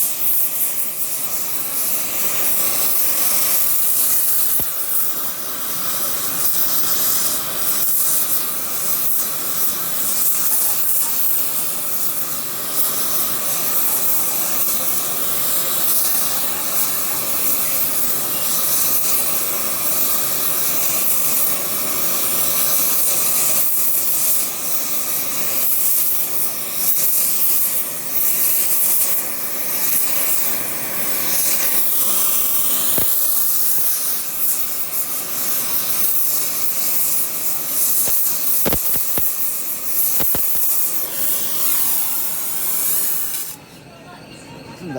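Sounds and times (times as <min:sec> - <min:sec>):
welding arc hissing: 0:00.0 - 0:43.6.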